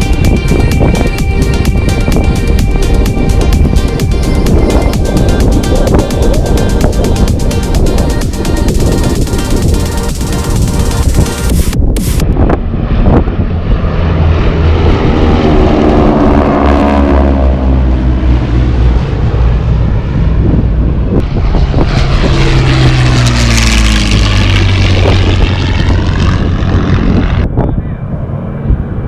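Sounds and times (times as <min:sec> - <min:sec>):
propeller plane flying past: 0:00.0 - 0:29.0.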